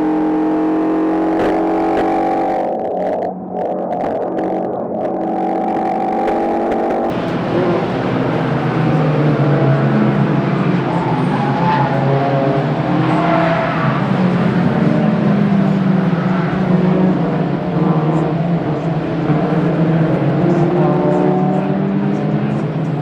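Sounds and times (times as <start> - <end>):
racing car engine revving: 0.0 - 23.0.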